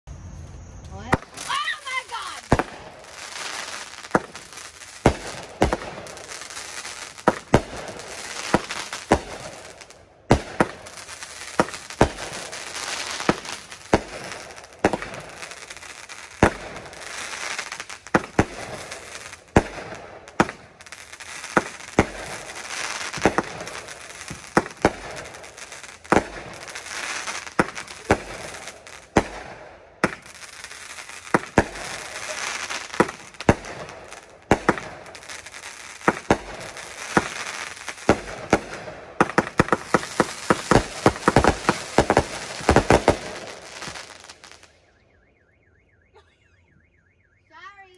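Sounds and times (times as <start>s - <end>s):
crackle of bursting sparks: 0.8s - 44.8s
fireworks bangs: 0.8s - 45.4s.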